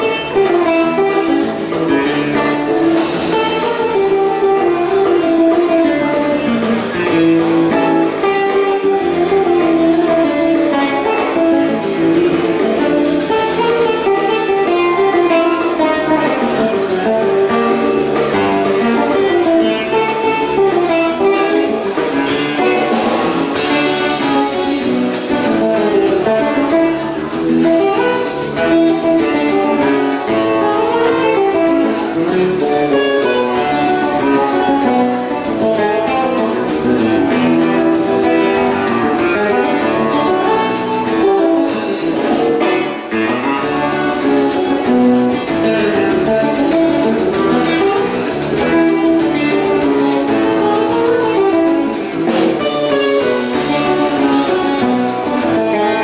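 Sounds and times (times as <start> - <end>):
acoustic guitar melody: 0.0 - 56.0
drum kit: 0.0 - 56.0
electric bass: 0.0 - 56.0.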